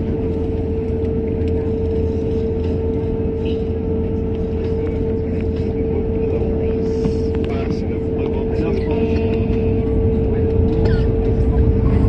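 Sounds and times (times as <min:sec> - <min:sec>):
airliner cabin engine drone: 0:00.0 - 0:12.0
constant humming tone: 0:00.0 - 0:12.0.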